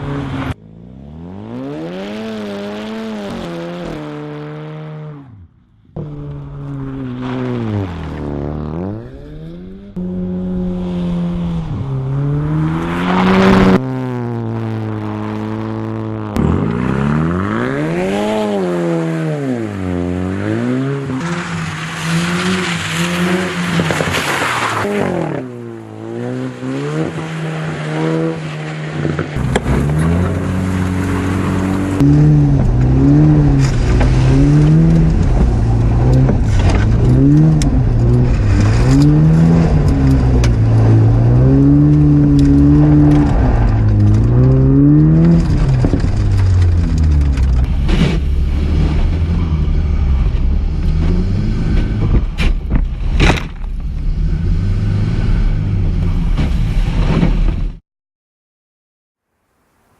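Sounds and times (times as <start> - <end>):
rally car engine revving: 0.0 - 57.8.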